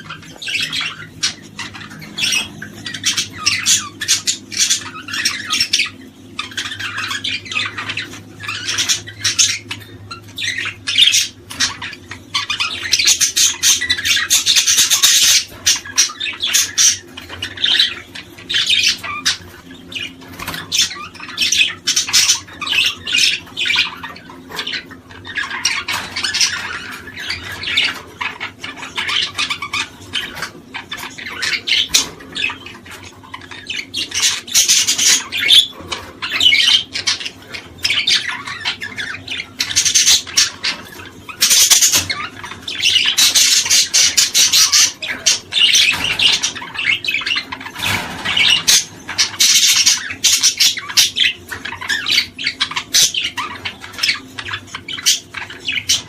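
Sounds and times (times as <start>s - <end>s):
cage birds chattering and squawking: 0.0s - 56.0s.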